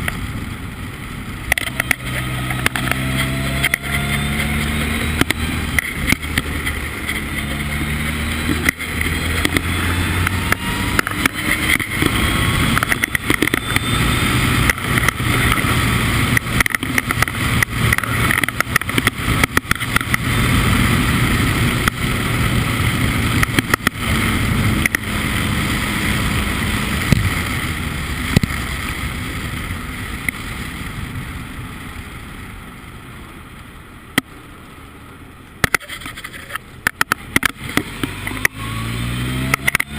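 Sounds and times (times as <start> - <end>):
wind buffeting on microphone: 0.0 - 32.5
race car engine running hard: 0.0 - 39.9.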